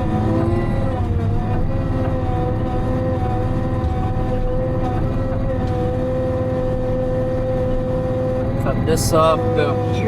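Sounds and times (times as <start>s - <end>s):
low engine rumble: 0.0s - 10.0s
steady machine whine: 0.0s - 10.0s.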